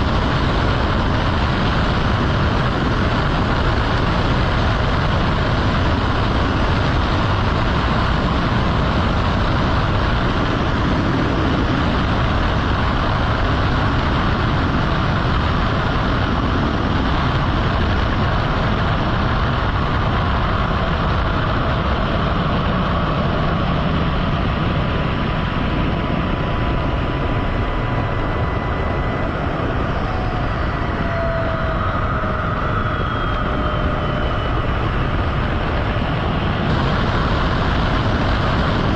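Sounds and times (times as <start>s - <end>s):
jet noise rushing: 0.0s - 38.9s
jet passing with falling whine: 0.0s - 38.9s.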